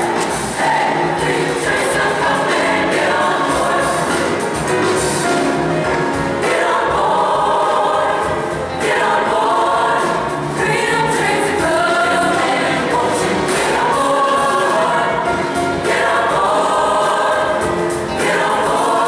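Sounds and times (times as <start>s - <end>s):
choir singing gospel: 0.0s - 19.0s.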